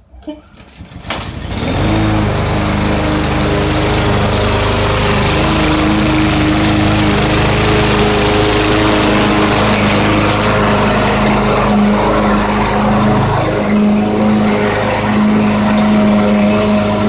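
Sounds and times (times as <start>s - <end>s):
lawn mower engine running: 0.5s - 17.0s.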